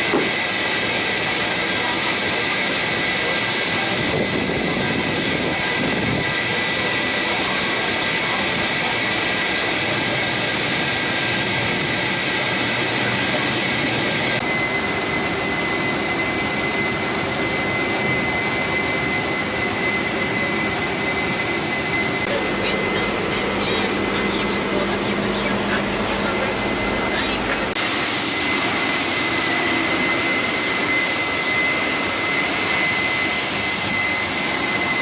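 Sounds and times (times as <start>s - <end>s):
vacuum whining: 0.0s - 35.0s.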